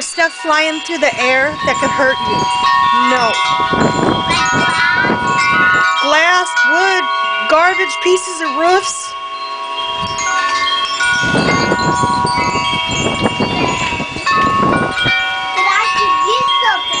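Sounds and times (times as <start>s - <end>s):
wind chimes ringing: 0.0s - 17.0s
wind gusts rushing: 0.1s - 7.8s, 9.7s - 17.0s.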